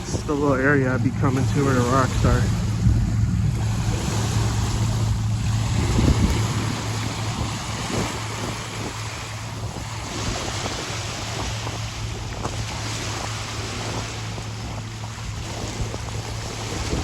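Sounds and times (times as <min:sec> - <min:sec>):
water washing against shore: 0:00.0 - 0:17.0
wind buffeting microphone: 0:00.0 - 0:17.0.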